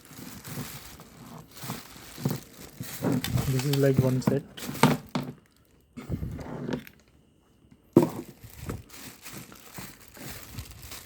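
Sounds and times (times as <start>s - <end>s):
cables rustling: 0.0s - 7.2s, 7.9s - 11.0s.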